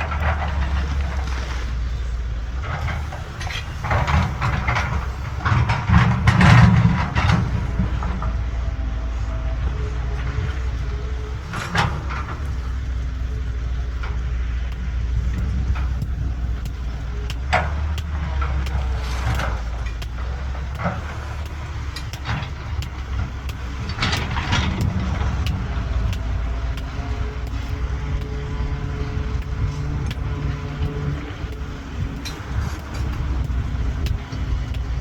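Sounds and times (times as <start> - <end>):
excavator diesel engine running: 0.0 - 35.0
metal clanks and knocks: 2.6 - 8.8, 10.1 - 35.0.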